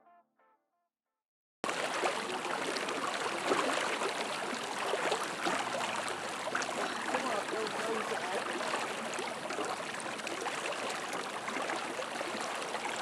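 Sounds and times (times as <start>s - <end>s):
flooded river rushing: 1.7s - 13.0s.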